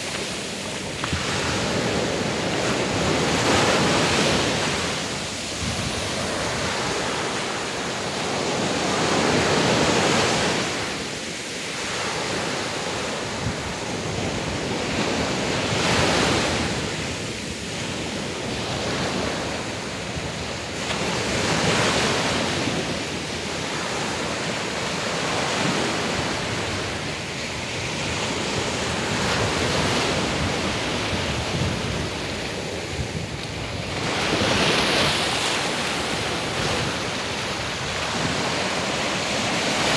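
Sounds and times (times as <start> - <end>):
sea waves breaking on sand: 0.0 - 39.9.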